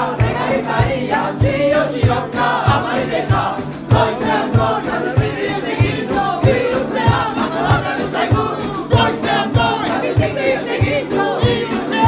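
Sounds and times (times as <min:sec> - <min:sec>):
low thumping beat: 0:00.0 - 0:12.0
voices singing together: 0:00.0 - 0:12.0.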